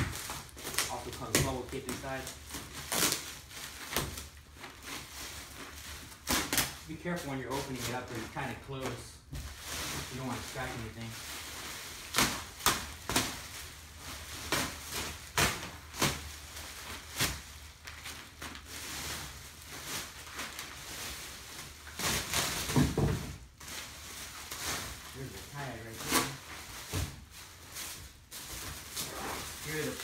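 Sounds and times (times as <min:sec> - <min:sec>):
bubble wrap crackles: 0:00.0 - 0:30.0
plastic rustling and crinkling: 0:00.0 - 0:30.0.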